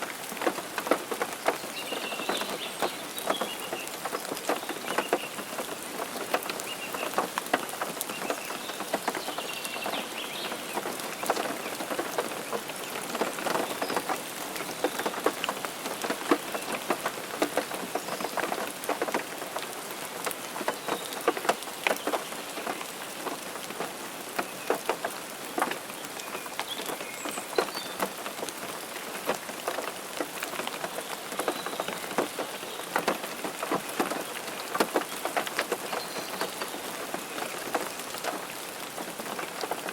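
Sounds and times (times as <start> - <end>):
raindrops striking sharply: 0.0 - 39.9
steady rain: 0.0 - 39.9.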